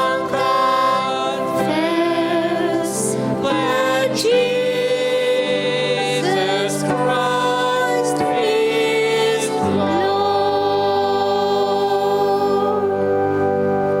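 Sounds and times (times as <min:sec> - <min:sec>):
voices singing a hymn: 0:00.0 - 0:14.0.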